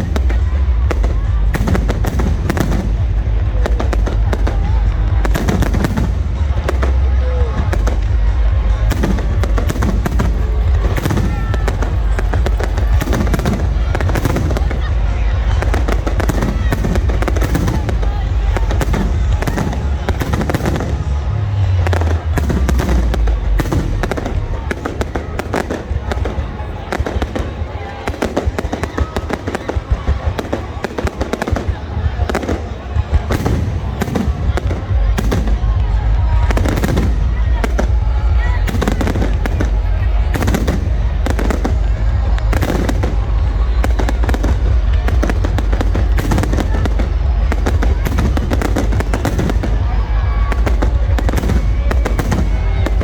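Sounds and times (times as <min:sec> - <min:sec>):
deep rumbling fireworks booms: 0:00.0 - 0:53.0
fireworks cracks and pops: 0:00.0 - 0:53.0.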